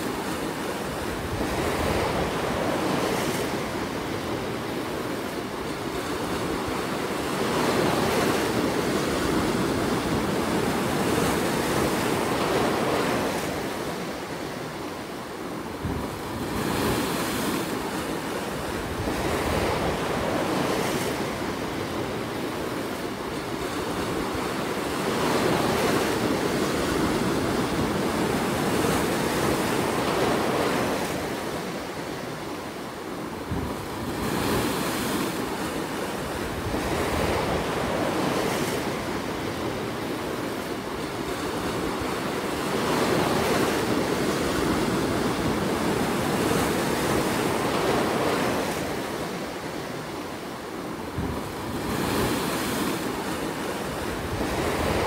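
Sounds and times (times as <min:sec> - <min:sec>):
ocean surf breaking over rocks: 0:00.0 - 0:55.0.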